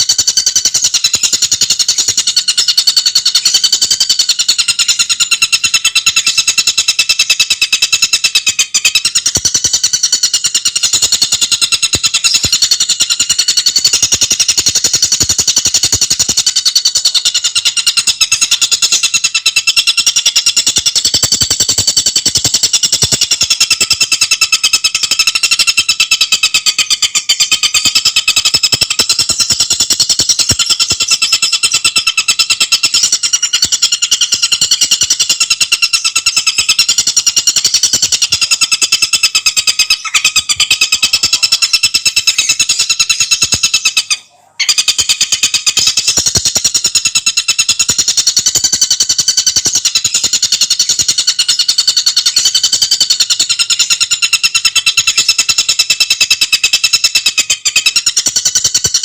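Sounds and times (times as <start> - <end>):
bird singing rapid high trill: 0.0 - 59.0.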